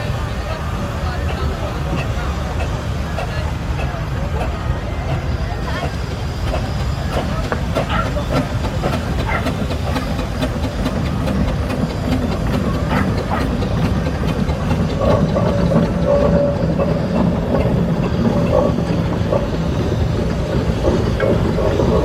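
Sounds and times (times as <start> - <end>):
hissing steam: 0.0 - 22.0
steam engines rumbling past: 0.0 - 22.0
clanks and rattles: 0.6 - 22.0.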